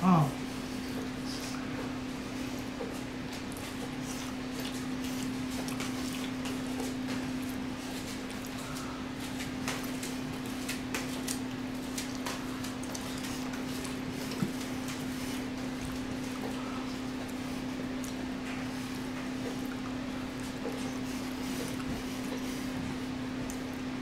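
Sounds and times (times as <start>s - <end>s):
steady low hum: 0.0s - 24.0s
chewing and mouth smacks: 2.5s - 23.9s.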